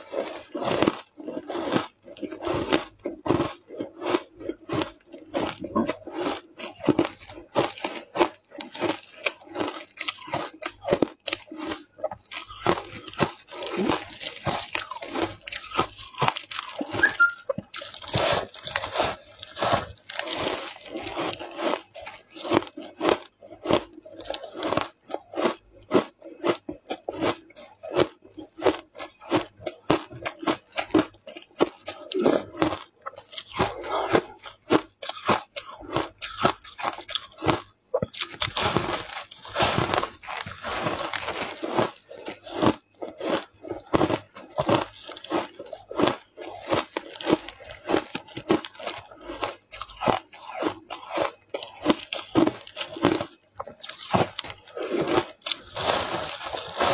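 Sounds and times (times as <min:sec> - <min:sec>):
ice crunched between teeth: 0:00.1 - 0:56.9.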